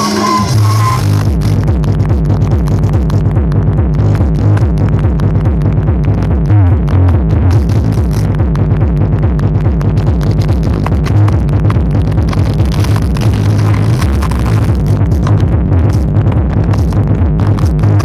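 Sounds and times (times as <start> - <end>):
electronic dance music with heavy bass: 0.0 - 18.0.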